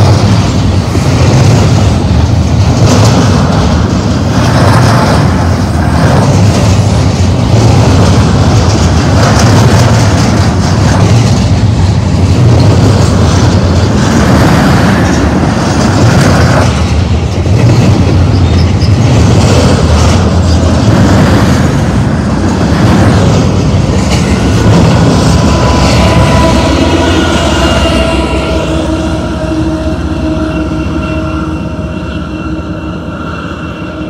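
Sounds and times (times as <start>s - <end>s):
wheels clattering over rails: 0.0s - 28.6s
train rumbling past: 0.0s - 34.0s.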